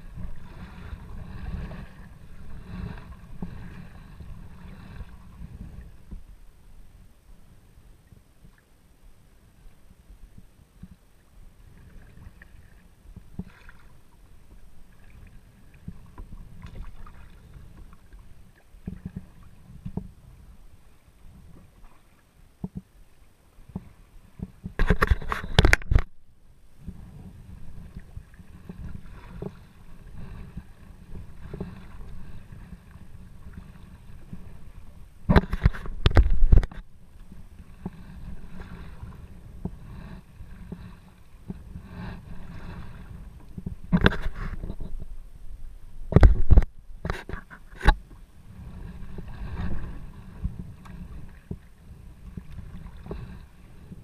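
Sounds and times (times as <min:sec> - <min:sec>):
paddle strokes splashing water: 0:00.0 - 0:08.8, 0:09.6 - 0:26.0, 0:26.7 - 0:54.0.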